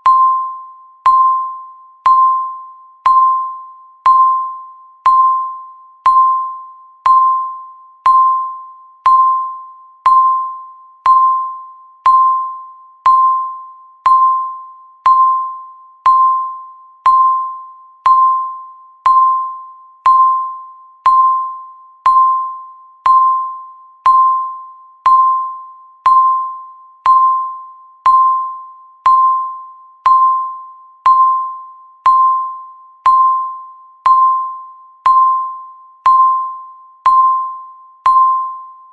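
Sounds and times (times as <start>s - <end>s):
electronic timer beep: 0.0s - 38.9s.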